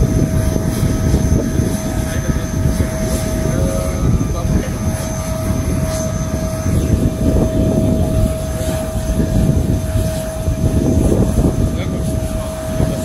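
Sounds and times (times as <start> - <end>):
jet engines rumbling with whine: 0.0 - 13.0.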